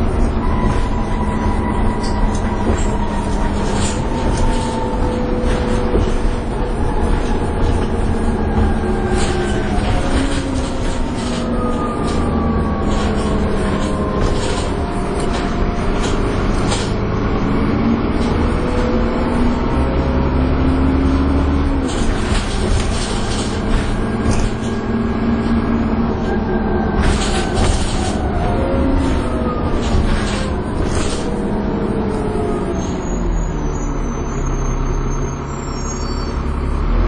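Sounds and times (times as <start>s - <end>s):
bus engine and transmission whining: 0.0s - 37.0s.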